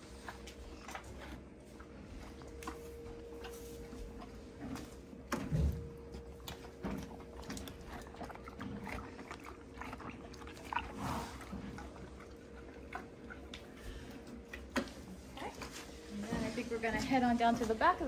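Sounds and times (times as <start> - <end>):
faint steady hum: 0.0 - 18.0
horse chewing and snuffling: 0.0 - 18.0.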